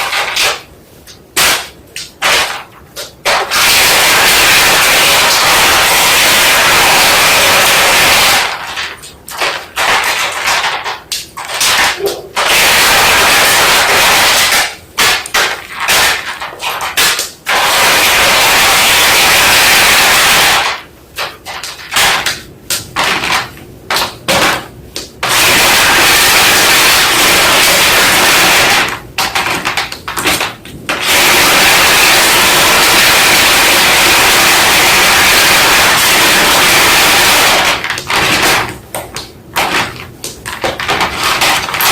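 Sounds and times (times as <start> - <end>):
steady hiss-like noise: 0.0 - 41.9.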